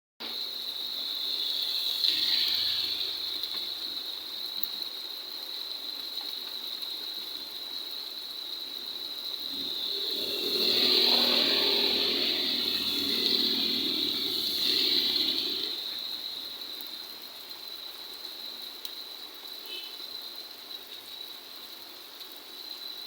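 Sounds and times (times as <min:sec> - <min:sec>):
rain: 0:00.4 - 0:23.0.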